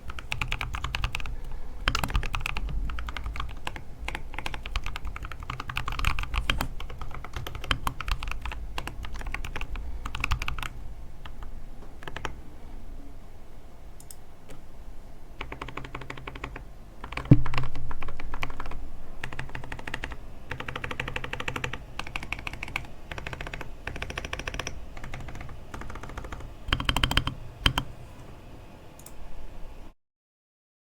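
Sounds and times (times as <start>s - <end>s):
mechanical keyboard typing: 0.1s - 12.4s, 15.4s - 28.0s.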